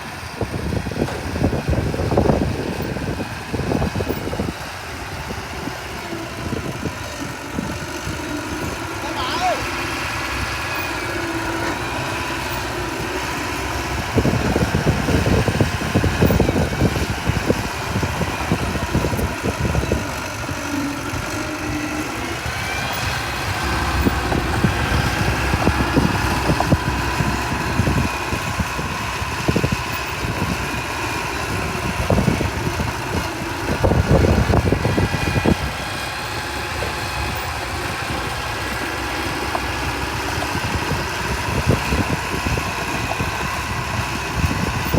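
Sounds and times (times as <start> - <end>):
diesel engine running: 0.0 - 44.9
machine rattling and clatter: 0.1 - 44.9.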